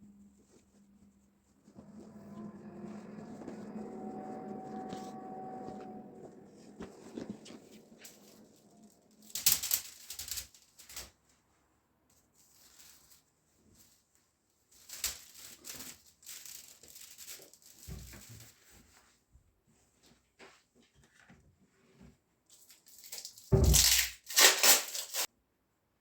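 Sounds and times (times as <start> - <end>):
rustling and crinkling handling: 0.1 - 25.3.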